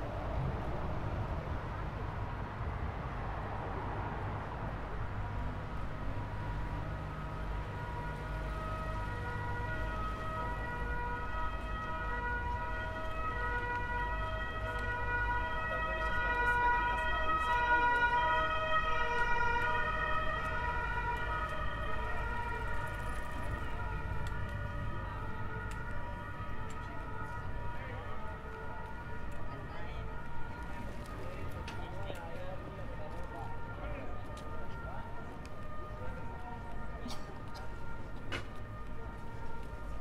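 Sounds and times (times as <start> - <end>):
low traffic rumble: 0.0 - 40.0
two-tone siren: 6.0 - 40.0.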